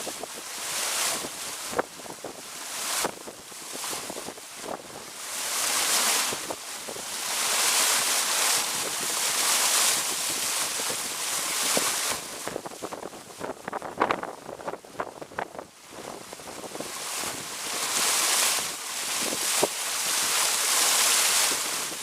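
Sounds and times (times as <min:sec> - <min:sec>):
wind buffeting microphone: 0:00.0 - 0:05.2, 0:06.1 - 0:20.5
waterfall rushing: 0:00.0 - 0:12.7, 0:16.3 - 0:22.0.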